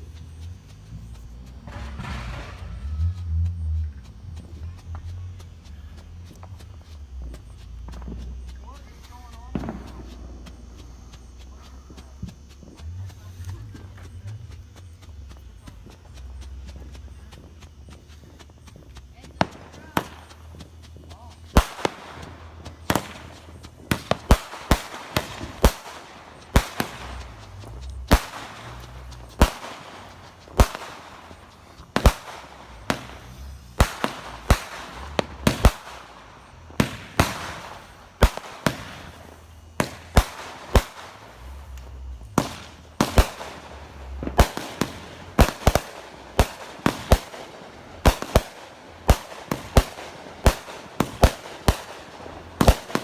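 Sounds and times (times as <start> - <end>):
low rumble: 0.0 - 48.1
fireworks banging: 0.0 - 53.0.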